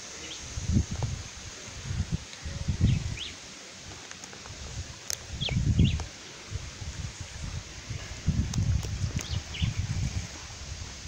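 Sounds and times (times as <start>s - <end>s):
wind buffeting microphone: 0.4s - 3.4s, 4.4s - 11.0s.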